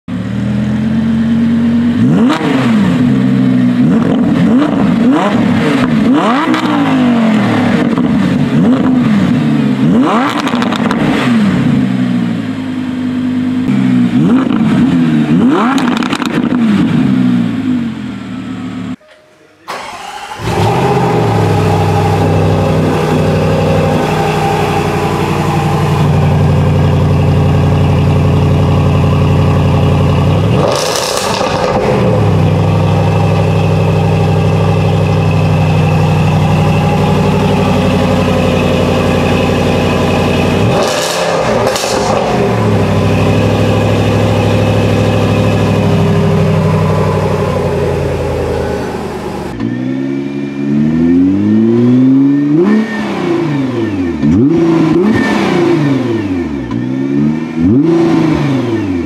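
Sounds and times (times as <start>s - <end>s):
car engine starting and idling: 0.1s - 59.0s
car engines revving: 0.2s - 19.0s, 19.7s - 59.0s.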